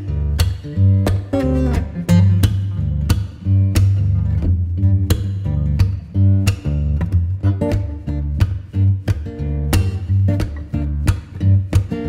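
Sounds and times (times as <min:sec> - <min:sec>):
guitar music with bass: 0:00.0 - 0:12.0.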